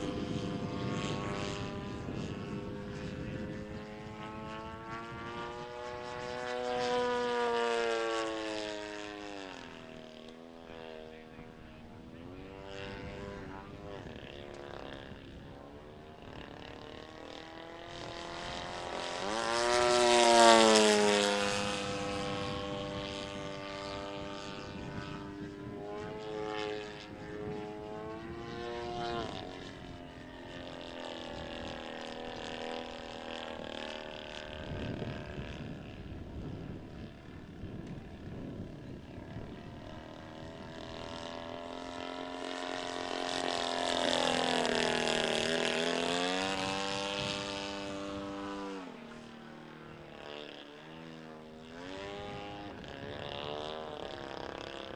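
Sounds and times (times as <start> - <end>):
model airplane engine droning: 0.0 - 54.9.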